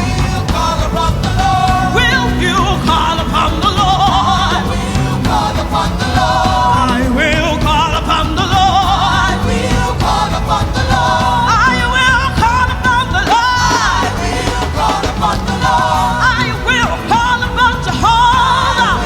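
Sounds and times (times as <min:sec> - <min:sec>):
band accompaniment with bass: 0:00.0 - 0:19.0
voices singing with vibrato: 0:00.0 - 0:19.0.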